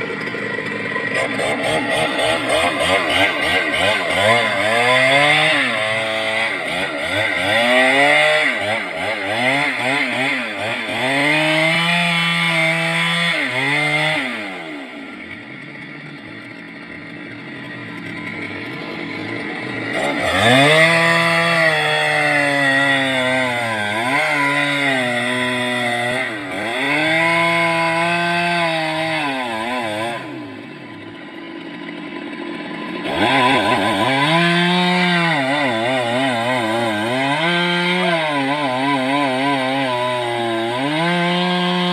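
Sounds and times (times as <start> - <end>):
chainsaw cutting into tree trunk: 0.0 - 41.9.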